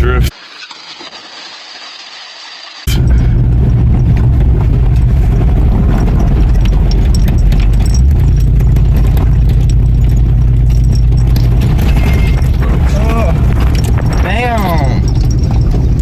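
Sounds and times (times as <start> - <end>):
car engine running: 2.9 - 16.0
engine rattling tick: 2.9 - 16.0.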